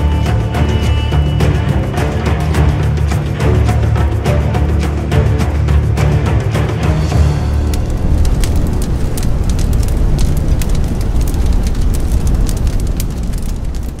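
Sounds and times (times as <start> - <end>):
fire rumbling and crackling: 0.0 - 14.0.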